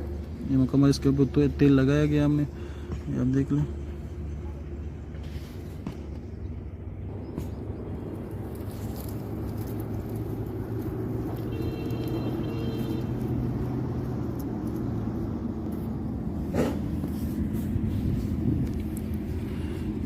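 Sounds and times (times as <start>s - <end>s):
low motor rumble: 0.0s - 20.0s.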